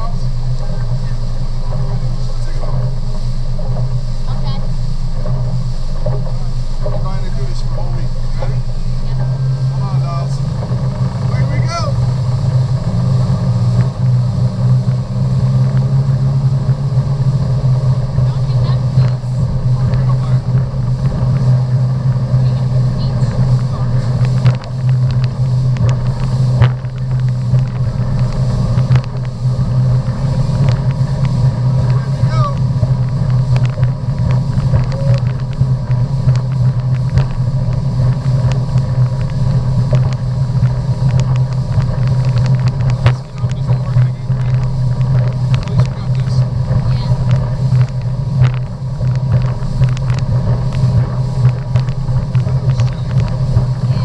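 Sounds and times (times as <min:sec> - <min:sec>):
motorboat engine droning: 0:00.0 - 0:54.0
wind noise on microphone: 0:00.0 - 0:54.0.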